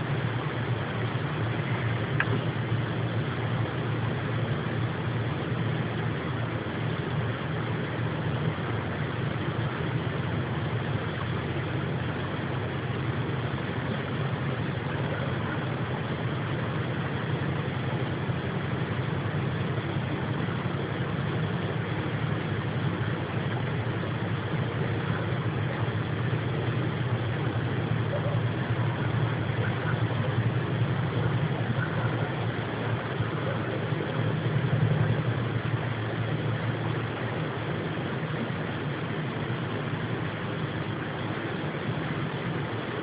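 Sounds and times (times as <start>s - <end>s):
low rumbling drone: 0.0s - 43.0s.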